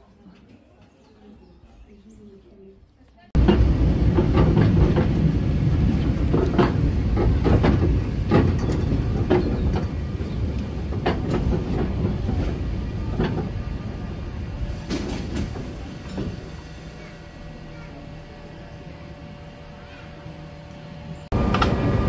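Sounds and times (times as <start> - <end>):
tram rumbling on rails: 3.3 - 22.0.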